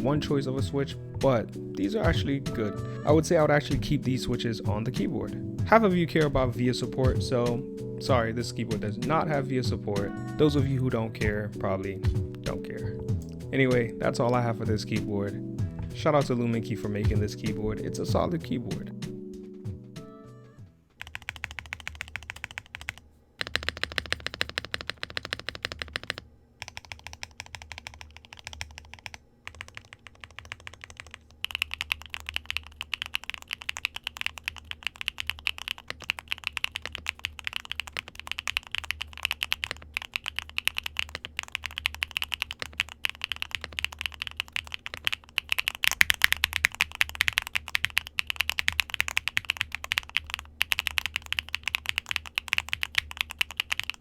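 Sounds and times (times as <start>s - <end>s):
fast keyboard typing: 0.0s - 19.1s, 21.0s - 54.0s.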